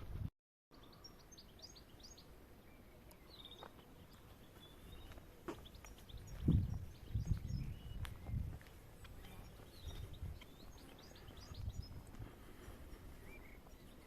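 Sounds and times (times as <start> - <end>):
birds chirping: 0.7 - 14.0.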